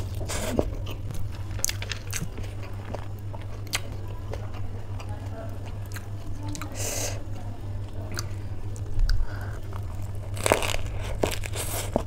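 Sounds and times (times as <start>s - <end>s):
crunchy chewing: 0.0s - 6.8s, 7.8s - 12.0s.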